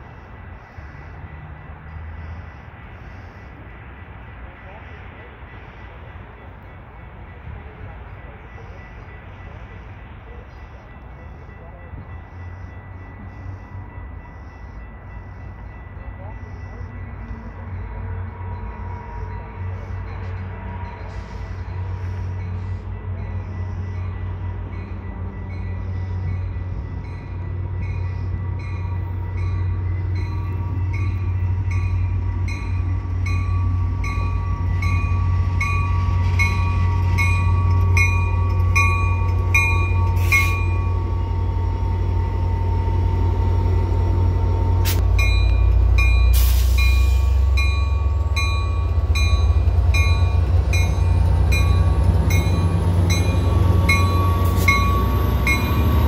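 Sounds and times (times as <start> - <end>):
diesel train engine rumbling: 0.0 - 56.0
train bell ringing: 0.0 - 56.0.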